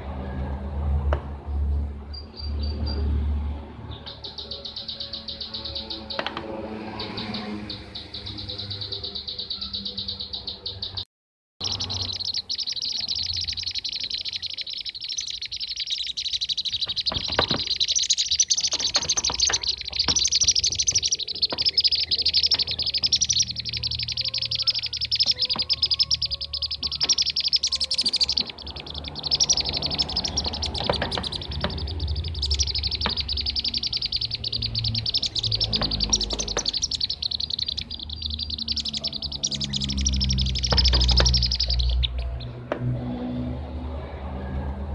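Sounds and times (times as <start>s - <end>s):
bird calls chorus: 3.8s - 11.0s, 11.6s - 42.7s.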